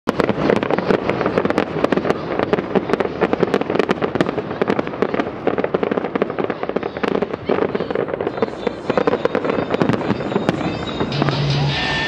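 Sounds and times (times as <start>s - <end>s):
fireworks cracking and popping: 0.1s - 12.0s.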